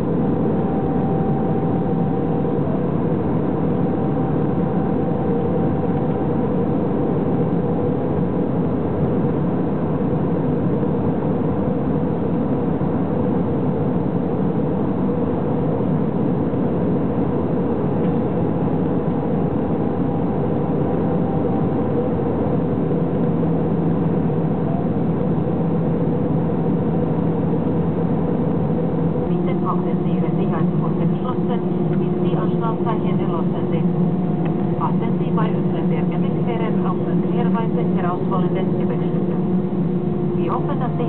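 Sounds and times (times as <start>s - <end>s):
airplane cabin noise: 0.0s - 41.0s.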